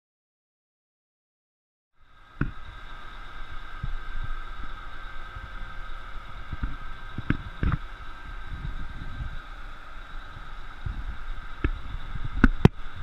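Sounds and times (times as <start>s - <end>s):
loader crane high whine: 2.0s - 13.0s
low engine rumble: 2.0s - 13.0s.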